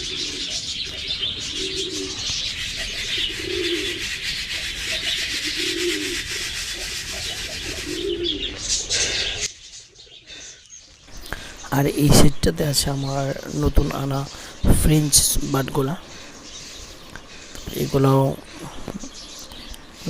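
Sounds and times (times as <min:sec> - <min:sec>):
budgerigars chattering: 0:00.0 - 0:20.0
pigeons cooing: 0:00.0 - 0:20.0.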